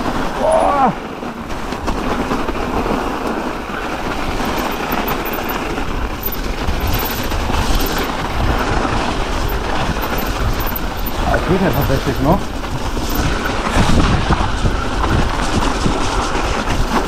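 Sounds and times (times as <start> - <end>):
bike rattling: 0.0 - 17.0
tyres rumbling over snow: 0.0 - 17.0.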